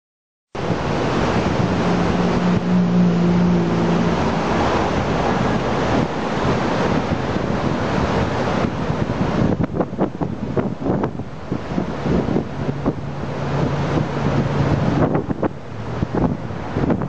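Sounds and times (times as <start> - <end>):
waterfall roaring: 0.6 - 17.0
wind noise on microphone: 0.6 - 17.0.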